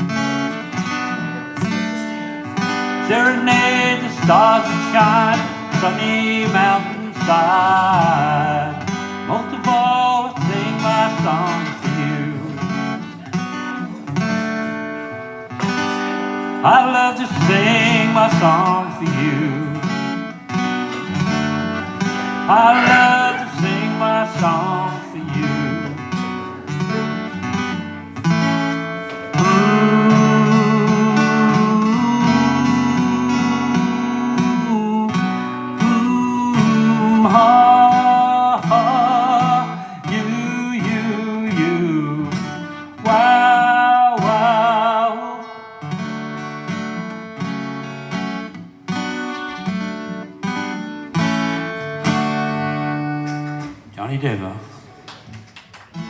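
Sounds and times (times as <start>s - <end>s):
acoustic guitar: 0.0s - 56.0s.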